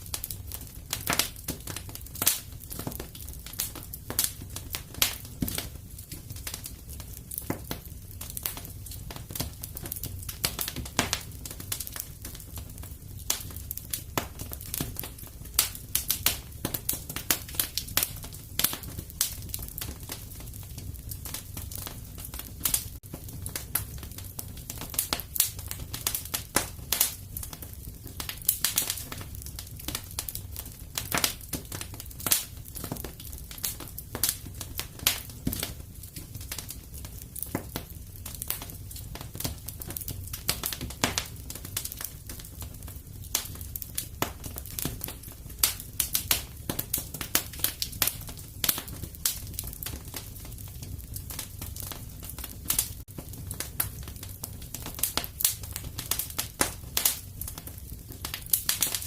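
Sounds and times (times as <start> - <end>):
burning logs crackling and popping: 0.0 - 59.0
low rumble of flame: 0.0 - 59.0.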